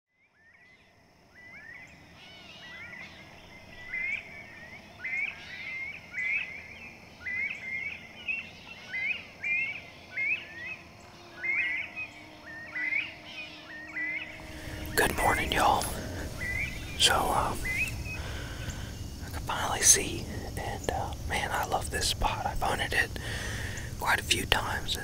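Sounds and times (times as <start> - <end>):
birdsong gliding phrases: 0.2 - 25.0
faint background hum: 0.4 - 25.0.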